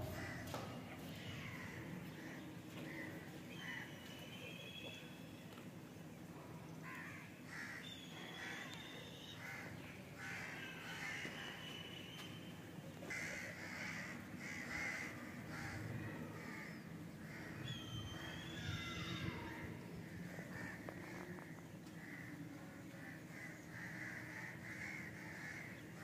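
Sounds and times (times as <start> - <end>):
crows cawing: 0.0 - 4.0, 6.8 - 8.8, 9.4 - 11.4, 13.1 - 26.0.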